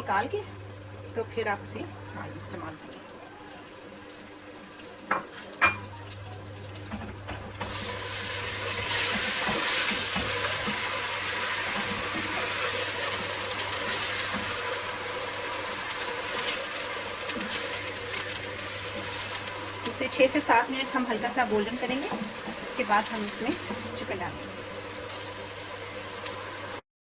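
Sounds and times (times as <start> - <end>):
onion paste sizzling in oil: 0.0 - 26.8.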